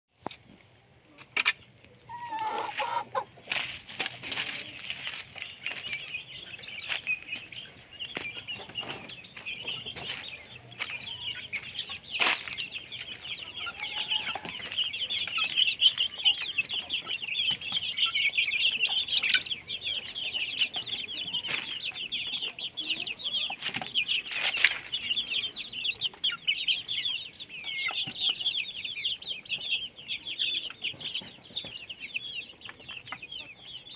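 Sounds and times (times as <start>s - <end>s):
chicks peeping: 0.2s - 33.9s
hens clucking: 0.2s - 33.9s.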